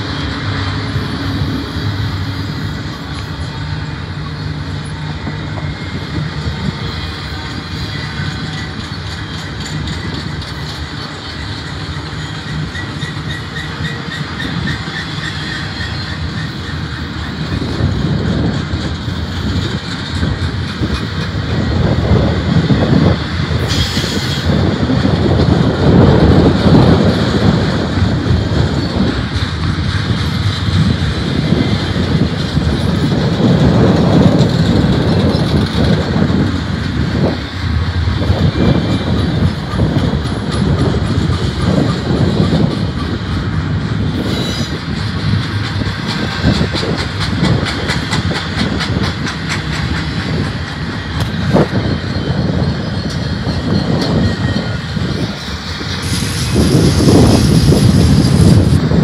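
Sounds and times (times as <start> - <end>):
train wheels clicking and clacking: 0.0 - 59.0
train wheels rumbling on rails: 0.0 - 59.0.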